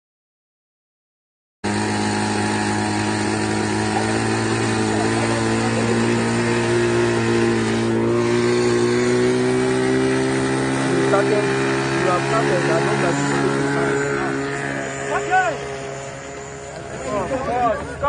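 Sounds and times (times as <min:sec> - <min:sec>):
model aeroplane motor humming: 0:01.6 - 0:18.0.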